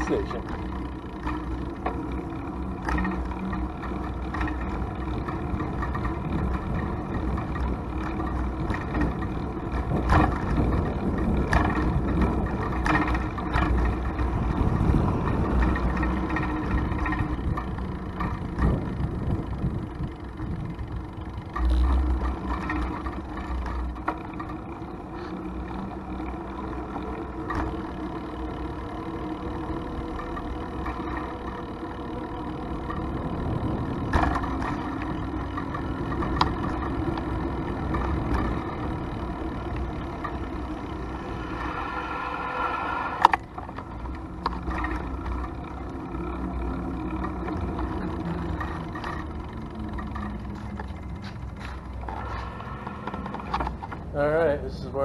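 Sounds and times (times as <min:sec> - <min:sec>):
wind rumbling on microphone: 0:00.0 - 0:25.8, 0:32.7 - 0:54.2
passing vehicles: 0:00.0 - 0:55.0
rolling road noise: 0:00.0 - 0:55.0.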